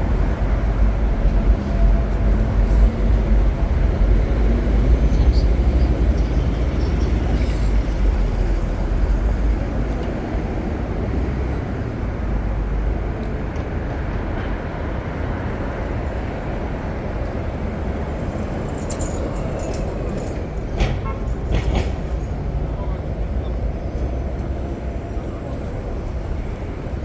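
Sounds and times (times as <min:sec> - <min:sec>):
rumble of passing vehicles: 0:00.0 - 0:27.0.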